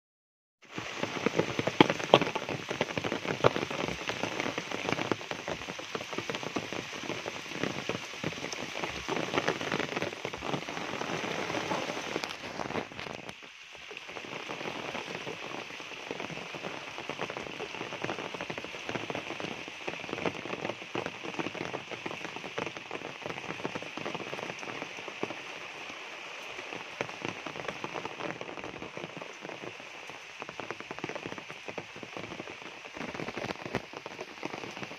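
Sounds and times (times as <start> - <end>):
heavy rain on foliage and puddles: 0.6 - 34.9.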